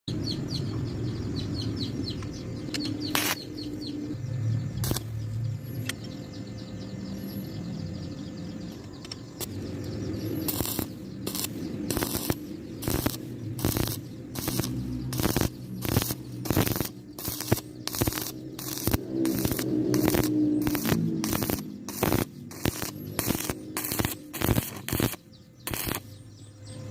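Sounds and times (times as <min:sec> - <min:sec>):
small bird chirping: 0:00.1 - 0:26.9
steady low rumble: 0:00.2 - 0:26.5.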